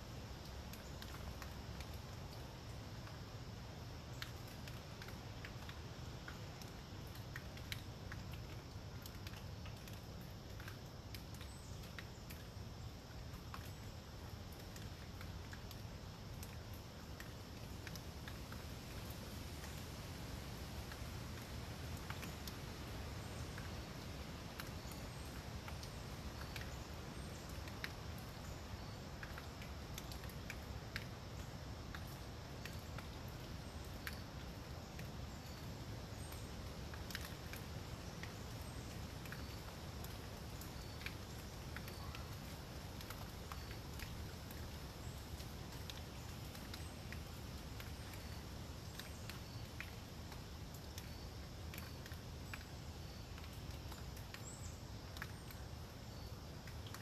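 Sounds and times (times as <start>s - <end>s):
raindrops pattering on leaves: 0.0s - 57.0s.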